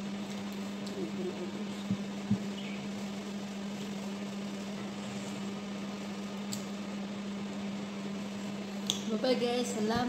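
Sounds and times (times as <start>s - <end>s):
household appliance humming: 0.0s - 10.0s.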